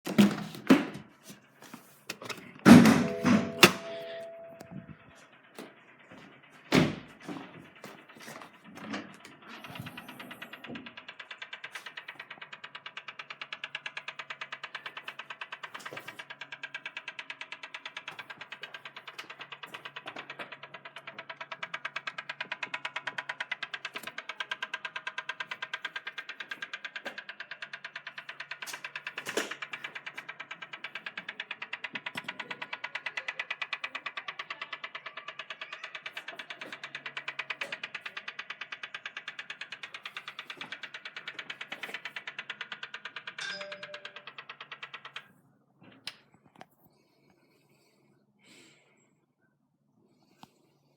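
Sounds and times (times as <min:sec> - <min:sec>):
rapid mechanical clicking: 0:00.1 - 0:47.1.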